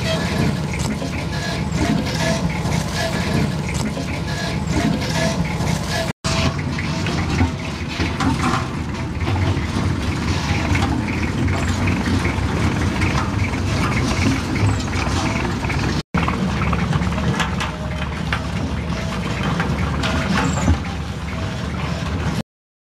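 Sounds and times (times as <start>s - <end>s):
road roller engine running: 0.0s - 22.4s.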